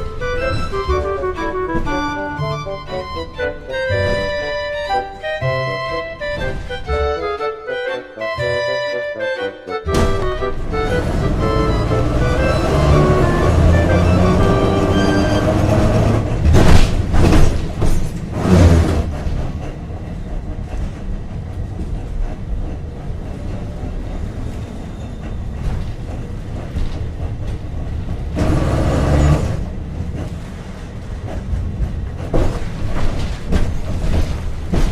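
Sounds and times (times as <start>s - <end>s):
rail clattering: 0.0s - 7.8s, 9.8s - 24.4s, 25.1s - 34.9s
tram rumbling along track: 0.0s - 34.9s.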